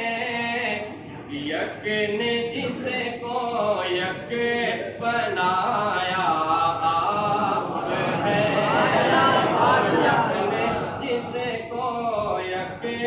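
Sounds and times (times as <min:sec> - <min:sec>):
man singing unaccompanied: 0:00.0 - 0:08.7, 0:10.4 - 0:13.0.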